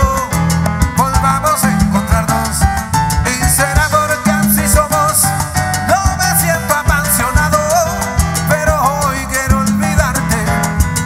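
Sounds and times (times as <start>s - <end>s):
bass line: 0.0s - 11.0s
bending melody line: 0.0s - 11.0s
percussion: 0.0s - 11.0s.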